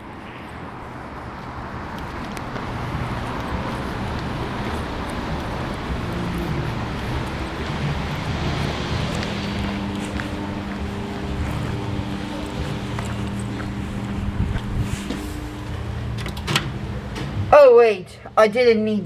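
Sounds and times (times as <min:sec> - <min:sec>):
road vehicle noise: 0:00.0 - 0:19.0.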